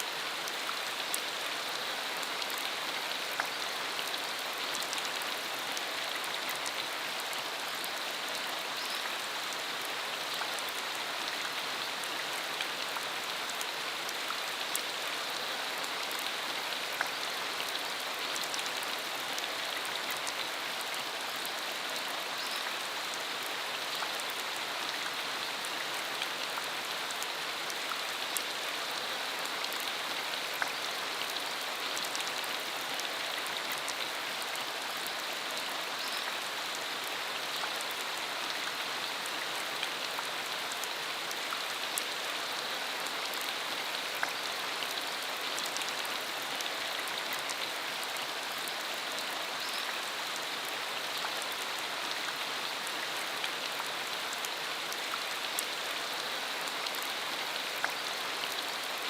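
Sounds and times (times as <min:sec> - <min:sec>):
rain falling steadily: 0:00.0 - 0:59.0.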